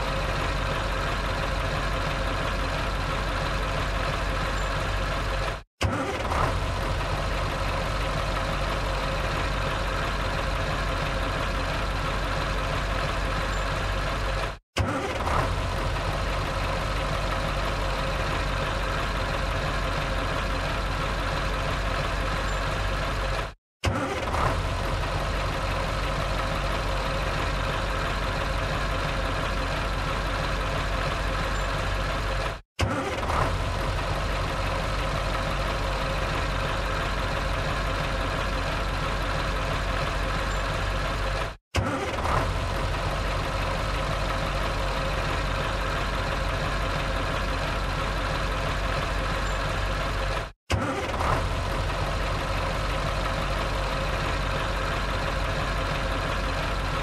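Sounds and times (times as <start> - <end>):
truck engine starting and idling: 0.0 - 57.0.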